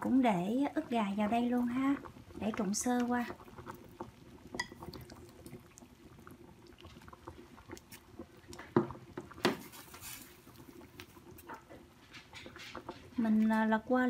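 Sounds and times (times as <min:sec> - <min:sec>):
water boiling and bubbling: 0:00.0 - 0:14.0.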